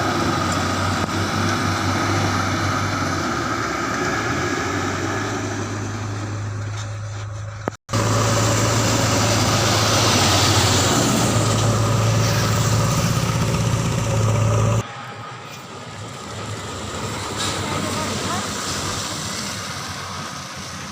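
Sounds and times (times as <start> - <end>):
heavy diesel engine running: 0.0 - 19.3.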